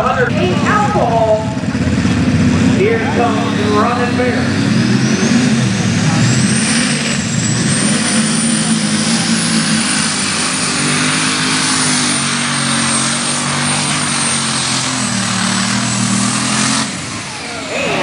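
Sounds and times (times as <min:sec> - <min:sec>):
high turbo whine: 0:00.0 - 0:18.0
tractor engine running flat out: 0:00.0 - 0:18.0.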